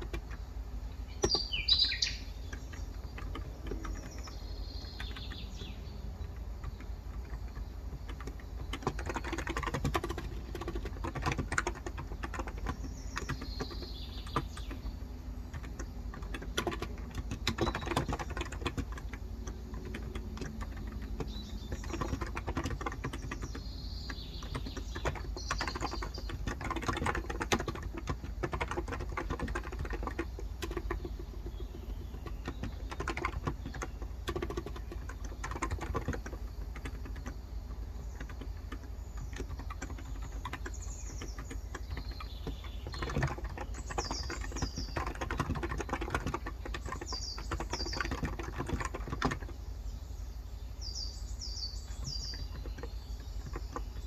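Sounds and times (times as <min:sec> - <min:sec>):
fast keyboard typing: 0:00.0 - 0:49.7, 0:51.9 - 0:54.0
bird chirping: 0:00.0 - 0:54.0
steady low hum: 0:00.0 - 0:54.0.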